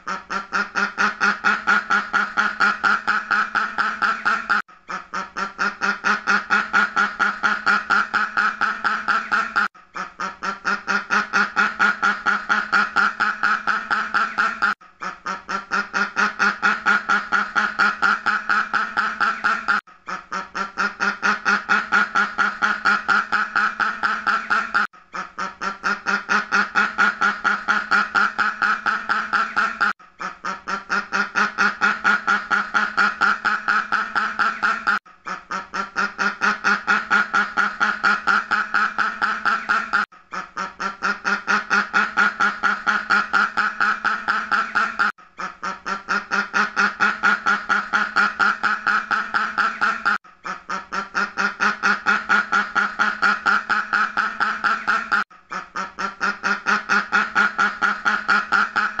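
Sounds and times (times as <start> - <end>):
duck quacking: 0.0 - 59.0.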